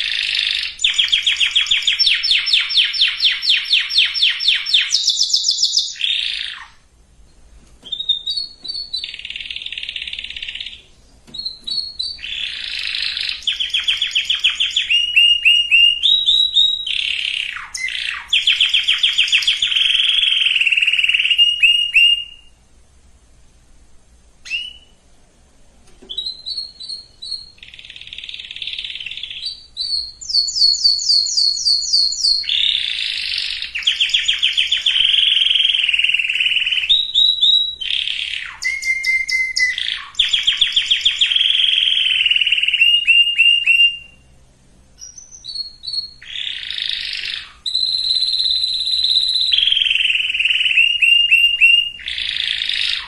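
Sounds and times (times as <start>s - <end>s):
canary singing trills: 0.0s - 22.6s, 24.4s - 25.0s, 26.0s - 44.3s, 45.0s - 53.0s.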